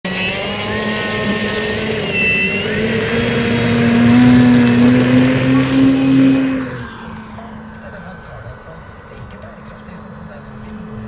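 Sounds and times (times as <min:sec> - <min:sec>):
drone motors humming: 0:00.0 - 0:11.0.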